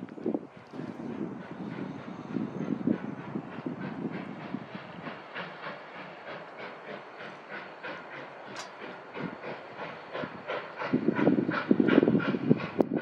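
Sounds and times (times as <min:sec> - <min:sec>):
steam hissing: 0:00.0 - 0:13.0
steam locomotive chuffing: 0:00.0 - 0:13.0.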